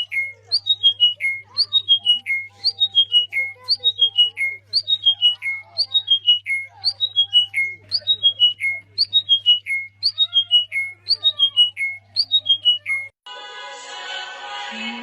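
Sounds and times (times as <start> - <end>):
bird whistling song: 0.0 - 13.1
fainter lower bird calls: 0.0 - 13.1.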